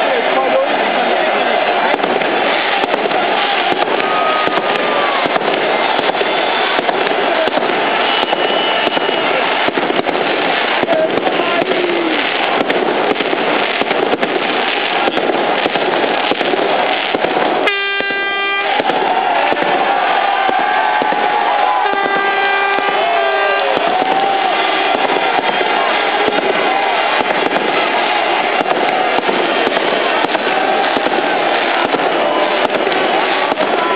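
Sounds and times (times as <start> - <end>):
crowd cheering and shouting: 0.0 - 33.9
firecrackers banging and popping: 0.0 - 33.9.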